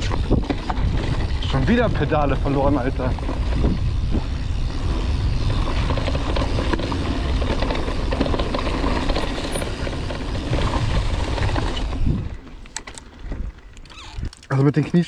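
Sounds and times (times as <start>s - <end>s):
wind buffeting microphone: 0.0s - 12.6s
bike rattling over bumps: 0.0s - 15.0s
tyres on dirt trail: 0.0s - 15.0s.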